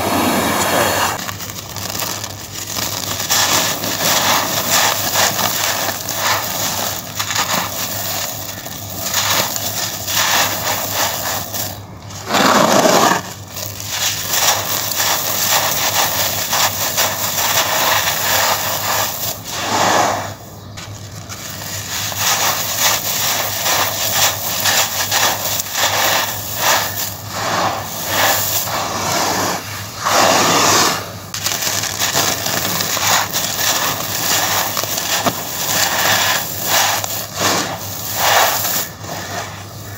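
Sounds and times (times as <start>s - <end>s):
hands crushing dry sand: 0.0s - 39.9s
sand grains trickling: 0.8s - 30.1s, 31.3s - 39.9s.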